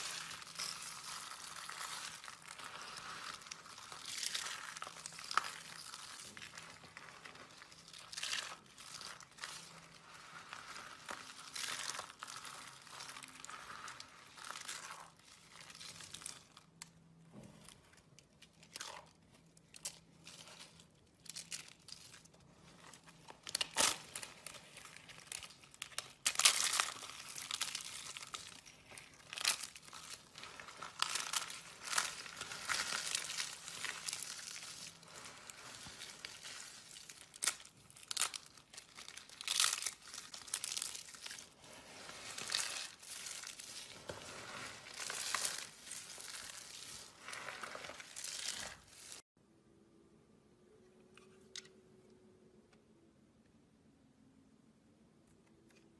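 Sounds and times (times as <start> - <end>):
soap shavings crunching: 0.0 - 17.0, 17.6 - 49.3.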